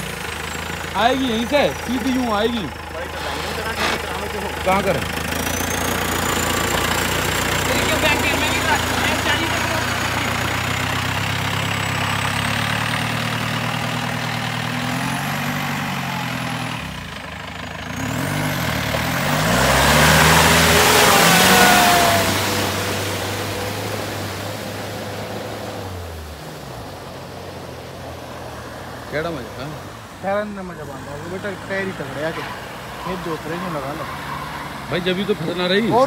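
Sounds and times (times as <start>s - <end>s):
tyres churning water and mud: 0.0s - 17.3s, 18.0s - 36.0s
jeep engine revving: 0.0s - 36.0s.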